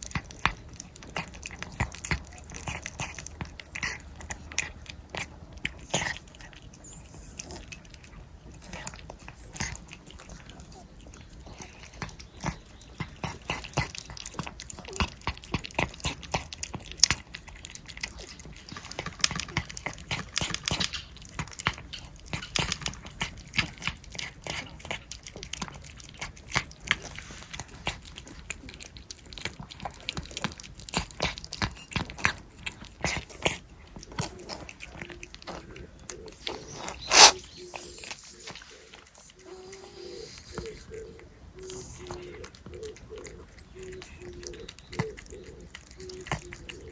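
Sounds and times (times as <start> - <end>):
cats licking and eating: 0.0 - 46.9.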